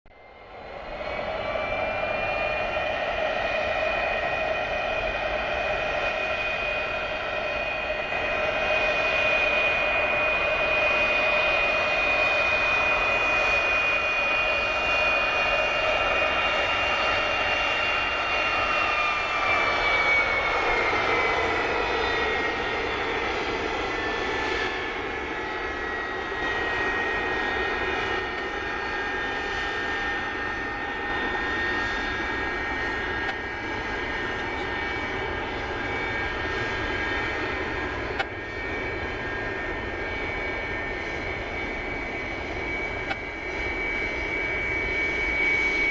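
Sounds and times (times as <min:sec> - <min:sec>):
jet engines whining: 0:00.2 - 0:45.9.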